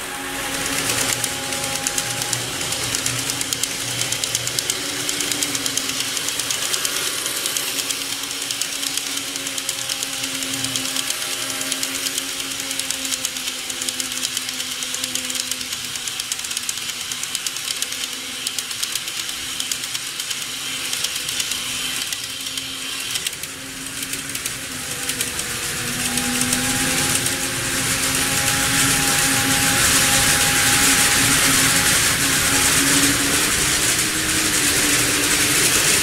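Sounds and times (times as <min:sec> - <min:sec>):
model train motor hum: 0:00.0 - 0:36.0
wheels clicking on rails: 0:00.0 - 0:36.0.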